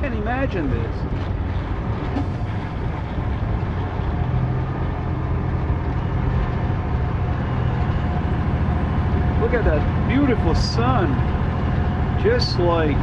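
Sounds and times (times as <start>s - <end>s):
diesel engine droning in cab: 0.0s - 13.0s.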